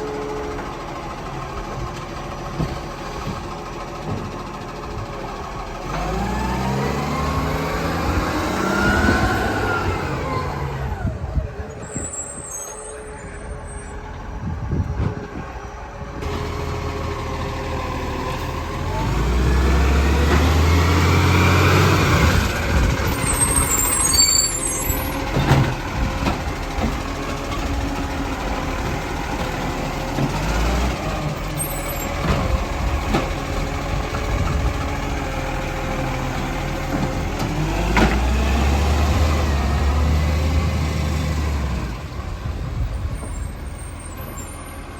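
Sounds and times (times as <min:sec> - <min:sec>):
diesel truck engine revving: 0:00.0 - 0:15.0, 0:15.6 - 0:44.9.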